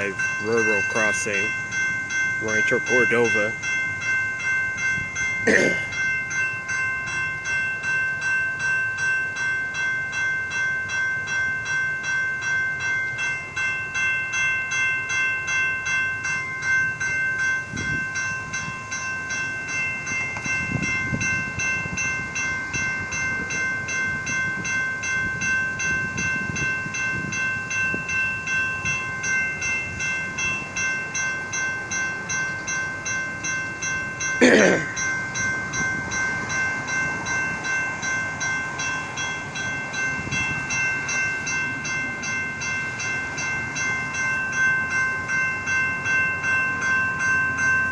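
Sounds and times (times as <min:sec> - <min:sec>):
railroad crossing bell ringing: 0:00.0 - 0:47.9.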